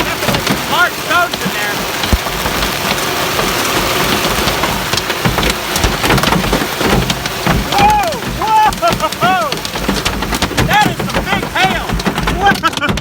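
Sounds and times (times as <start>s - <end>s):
hailstones hitting hard ground: 0.0s - 13.0s.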